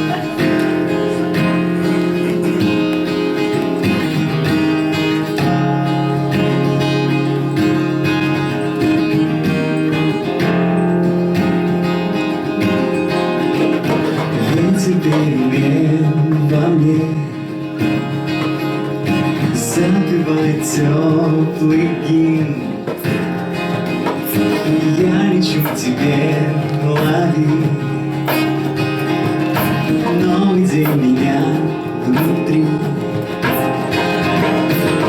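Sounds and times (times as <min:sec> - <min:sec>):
acoustic guitar strumming chords: 0:00.0 - 0:35.0
wordless sung melody: 0:00.0 - 0:35.0.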